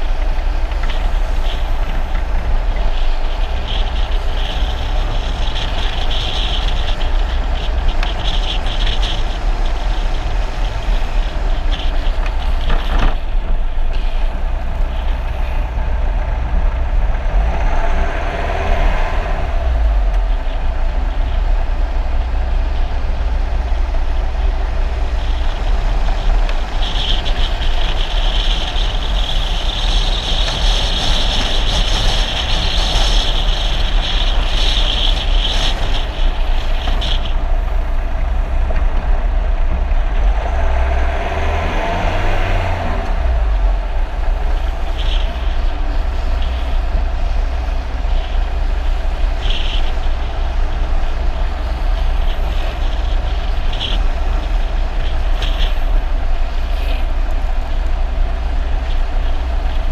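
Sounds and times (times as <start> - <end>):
road and wind noise rumble: 0.0 - 59.9.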